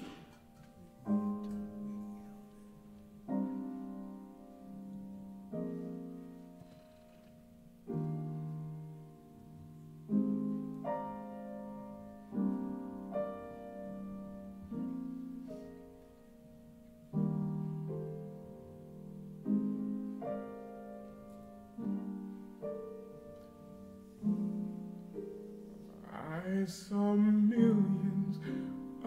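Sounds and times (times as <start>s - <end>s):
piano playing slow jazz chords: 0.0s - 29.0s.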